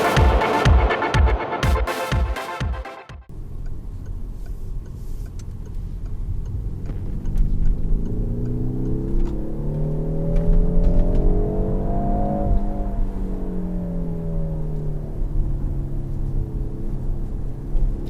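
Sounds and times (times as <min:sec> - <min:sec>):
car engine accelerating: 0:03.4 - 0:18.0
road rumble: 0:03.4 - 0:18.0.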